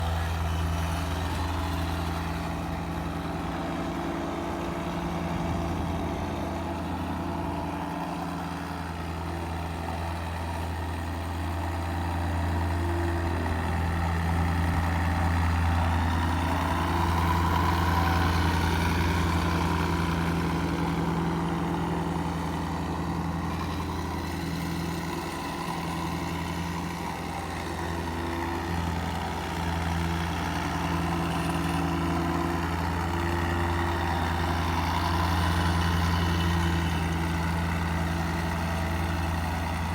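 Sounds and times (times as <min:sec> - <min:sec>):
concrete mixer engine running: 0:00.0 - 0:39.9.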